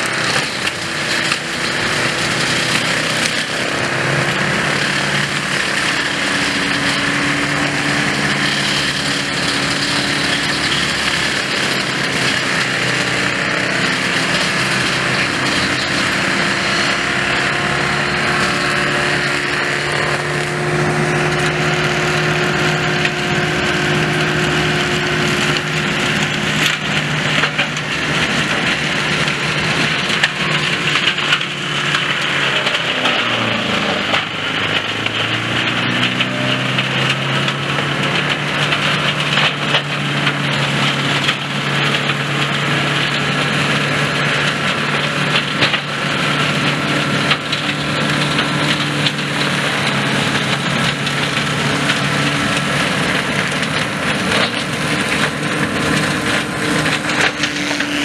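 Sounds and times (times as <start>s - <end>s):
mulcher shredding brushwood: 0.0s - 58.0s
tractor engine hum: 0.0s - 58.0s
wood cracking and snapping: 0.0s - 58.0s.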